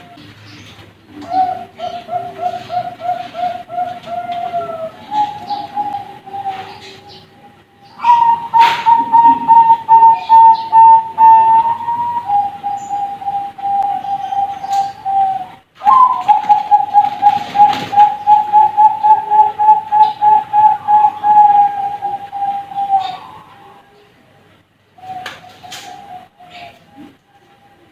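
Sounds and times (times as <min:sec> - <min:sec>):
doves cooing: 0:00.0 - 0:24.1, 0:24.9 - 0:27.9.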